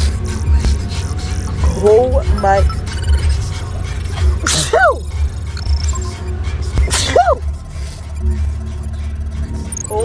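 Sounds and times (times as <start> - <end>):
background music with deep bass beat: 0.0 - 10.0.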